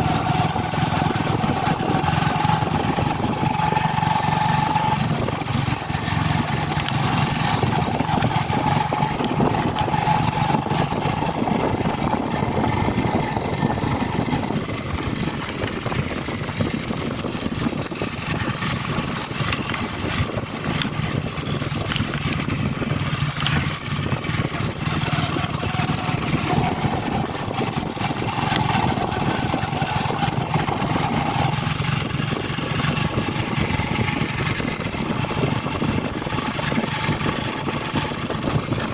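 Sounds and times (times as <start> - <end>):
road and wind noise: 0.0 - 38.9
vehicle engine running: 0.0 - 38.9.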